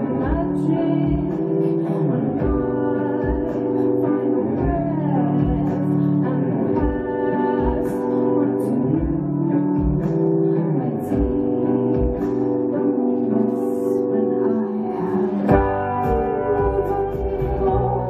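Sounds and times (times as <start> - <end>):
electric guitar chords: 0.0 - 18.0.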